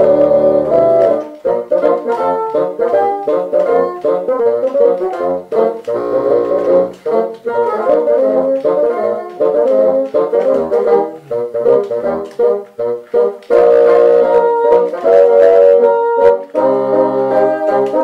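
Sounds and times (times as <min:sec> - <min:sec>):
bassoons playing in harmony: 0:00.0 - 0:18.0.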